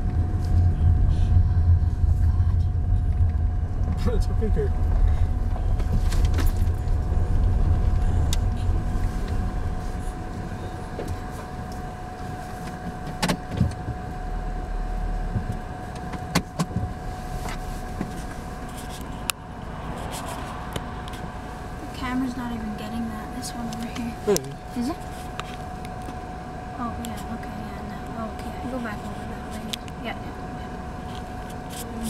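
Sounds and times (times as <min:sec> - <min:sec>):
car road noise rumble: 0:00.0 - 0:32.0.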